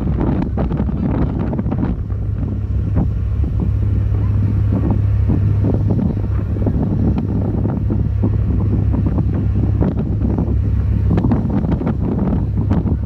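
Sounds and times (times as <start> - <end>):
ferry engines droning: 0.0 - 13.0
wind buffeting microphone: 0.0 - 13.0.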